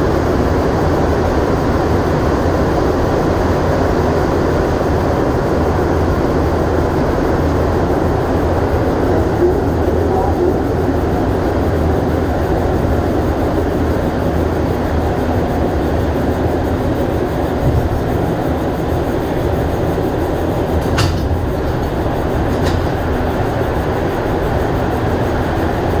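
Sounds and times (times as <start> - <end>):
train running with low rumble: 0.0 - 26.0.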